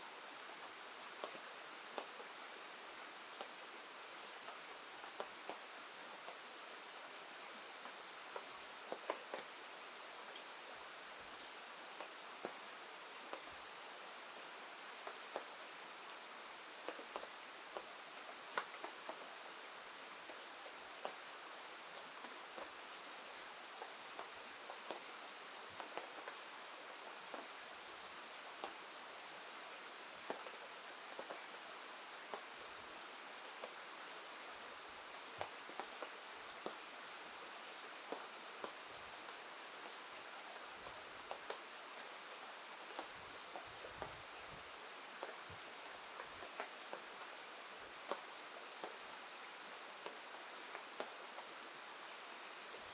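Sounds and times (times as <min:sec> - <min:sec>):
raindrops ticking close by: 0:00.0 - 0:52.9
steady rain hiss: 0:00.0 - 0:52.9.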